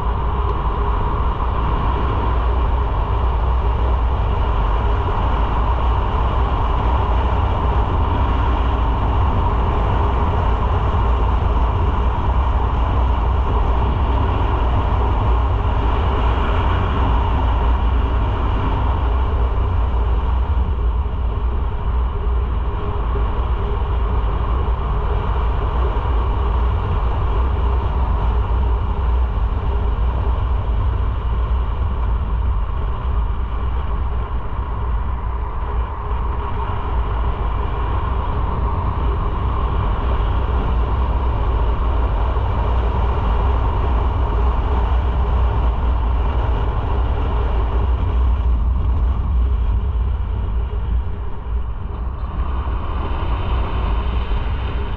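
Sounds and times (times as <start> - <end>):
motorcycle engine and road noise: 0.0 - 54.9.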